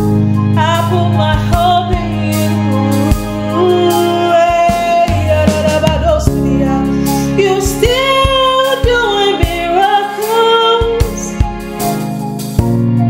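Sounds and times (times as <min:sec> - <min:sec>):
instrumental backing with steady beat: 0:00.0 - 0:13.0
woman singing gospel song: 0:00.6 - 0:11.4.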